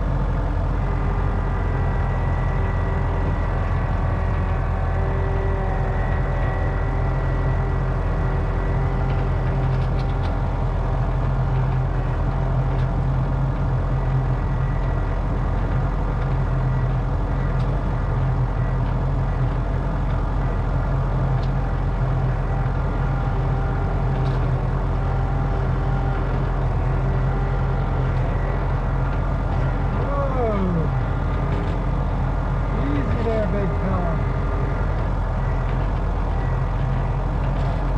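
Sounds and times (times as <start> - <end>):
engine running steadily: 0.0 - 37.9.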